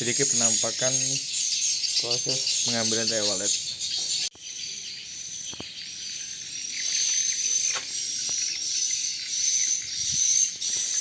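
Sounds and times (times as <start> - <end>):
insects and birds chirping: 0.0 - 11.0.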